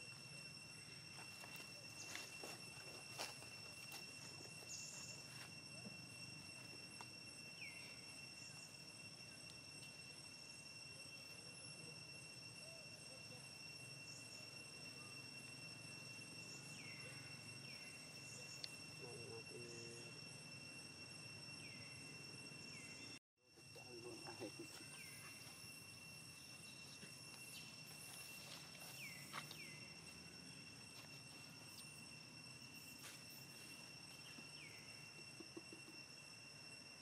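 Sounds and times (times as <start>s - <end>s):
insects high shrill drone: 0.0s - 37.0s.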